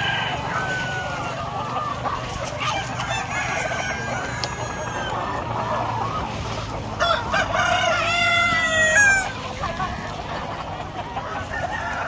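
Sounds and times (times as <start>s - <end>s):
chickens clucking: 0.0s - 12.0s
roosters crowing: 0.0s - 12.0s.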